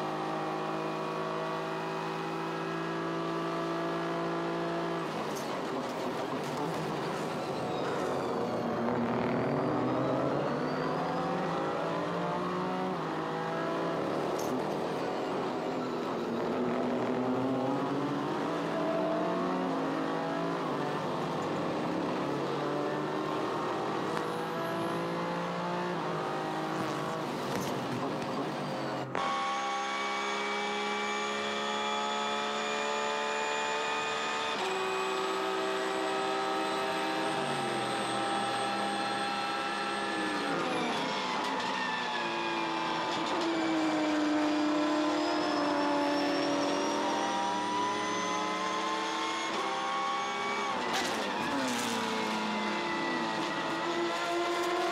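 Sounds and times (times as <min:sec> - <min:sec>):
race car engine at full throttle: 0:00.0 - 0:54.9.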